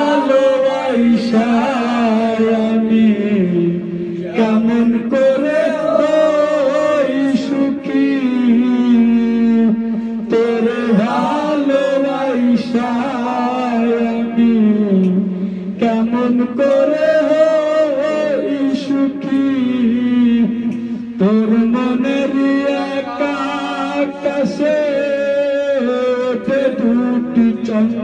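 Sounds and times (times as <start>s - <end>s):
men singing together: 0.0s - 15.2s, 15.8s - 28.0s
man singing into a microphone: 0.0s - 28.0s.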